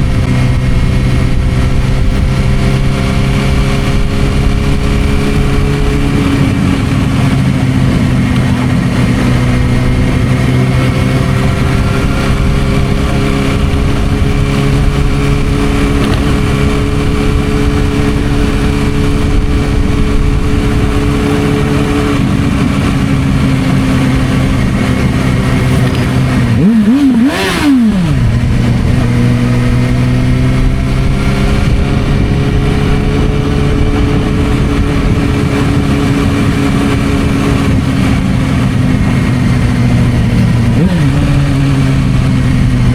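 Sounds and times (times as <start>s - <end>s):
motorcycle engine riding: 0.0s - 42.9s.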